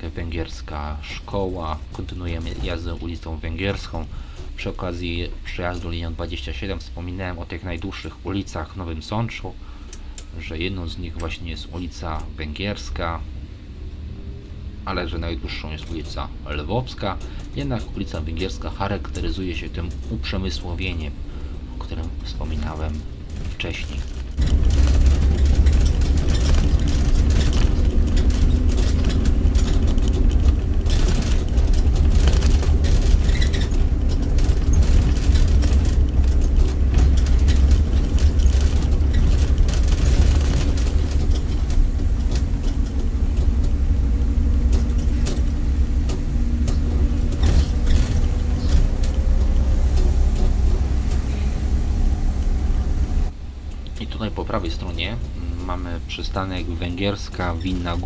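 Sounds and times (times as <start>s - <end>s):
bus engine drone: 0.0s - 58.0s
bus interior rattles: 0.0s - 58.0s
low road rumble: 0.0s - 58.0s.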